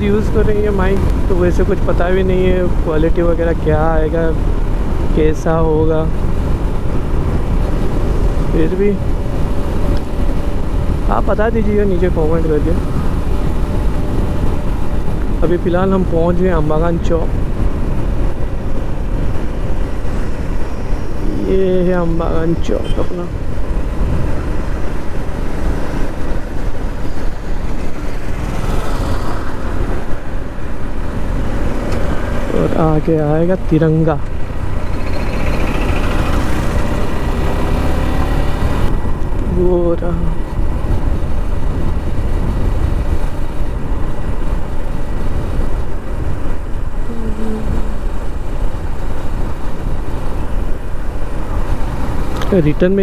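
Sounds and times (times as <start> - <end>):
motorcycle engine: 0.0 - 53.0
road noise: 0.0 - 53.0
wind buffeting microphone: 0.0 - 53.0.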